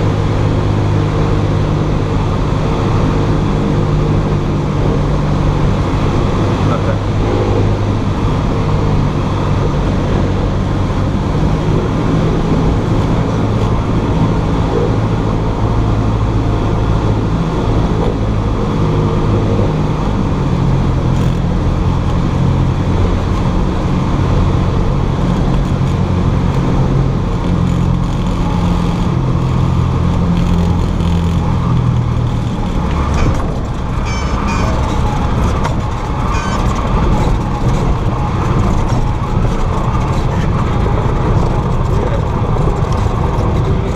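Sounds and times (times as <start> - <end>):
small plane engine droning: 0.0 - 43.9.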